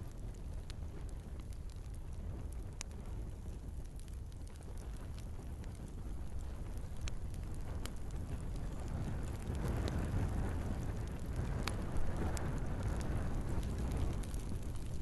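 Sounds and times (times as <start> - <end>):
burning wood crackling and popping: 0.0 - 15.0
fire flames rumbling: 0.0 - 15.0.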